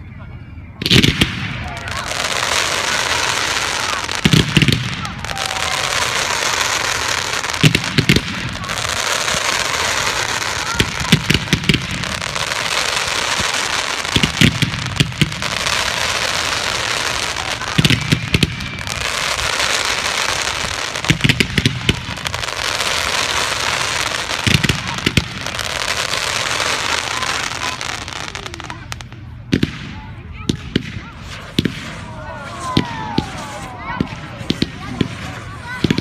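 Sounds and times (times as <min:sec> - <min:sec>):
fireworks bangs: 0:00.8 - 0:36.0
fireworks hiss and crackle: 0:00.8 - 0:36.0.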